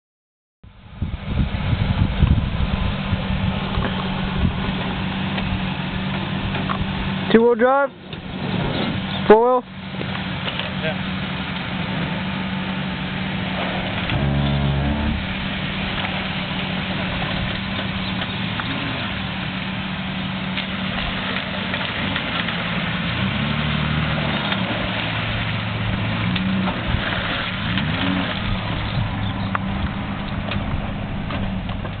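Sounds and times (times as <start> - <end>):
pickup engine revving: 1.3 - 32.0.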